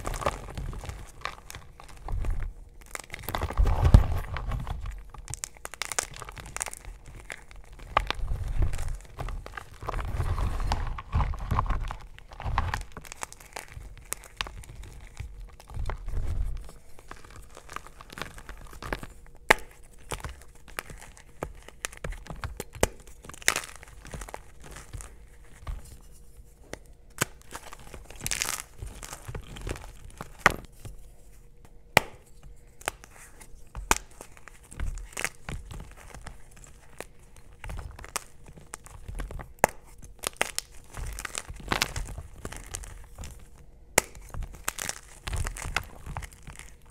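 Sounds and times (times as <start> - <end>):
powdery rustling: 0.0 - 46.9.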